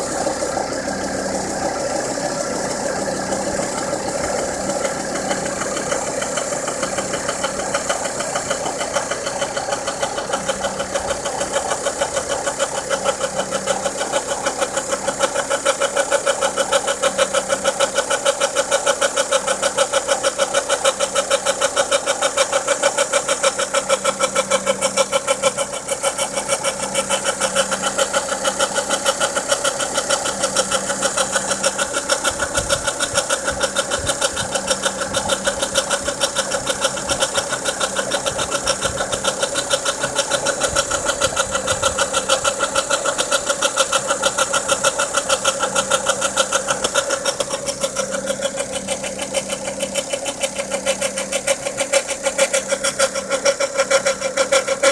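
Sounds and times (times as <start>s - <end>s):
car engine running: 0.0s - 54.9s
engine tick-knock: 0.0s - 54.9s.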